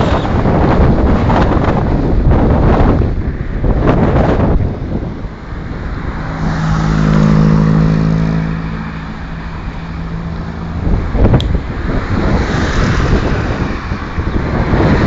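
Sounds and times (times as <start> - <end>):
car overtaking: 0.0 - 15.0
wind buffeting microphone: 0.0 - 15.0.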